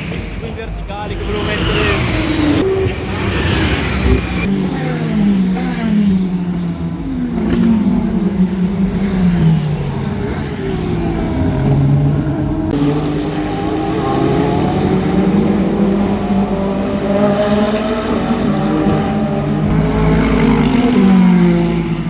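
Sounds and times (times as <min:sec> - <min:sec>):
race car engines shifting gears: 0:00.0 - 0:22.0.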